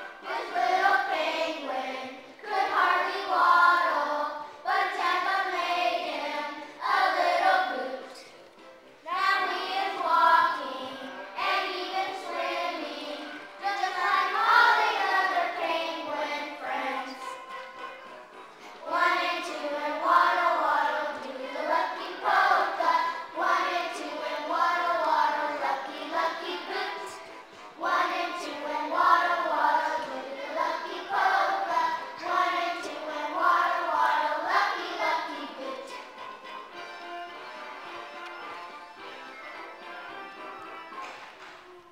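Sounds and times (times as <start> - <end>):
children singing: 0.0 - 8.4, 9.0 - 17.5, 18.7 - 36.5.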